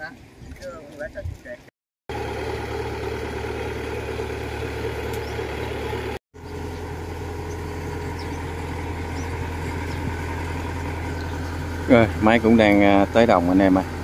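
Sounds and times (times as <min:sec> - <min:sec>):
harvester engine running: 0:02.1 - 0:14.0.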